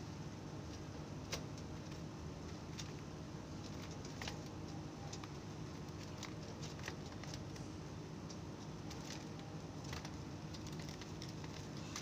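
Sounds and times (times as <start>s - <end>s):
steady low hum: 0.0s - 12.0s
birds clicking and tapping in cage: 0.6s - 12.0s.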